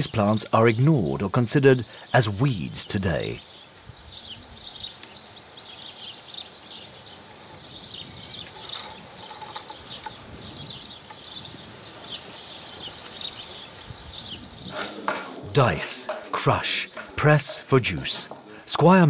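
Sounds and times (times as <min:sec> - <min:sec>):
bird chirps: 0:00.0 - 0:19.0
insect drone: 0:00.0 - 0:19.0.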